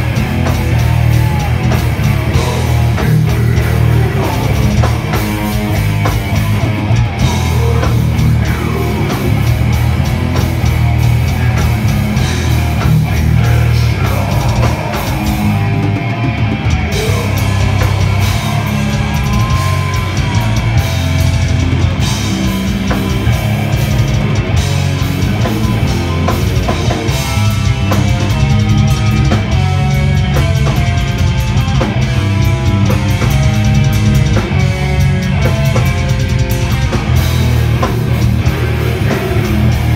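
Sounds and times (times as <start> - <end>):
live metal band playing: 0.0 - 39.9.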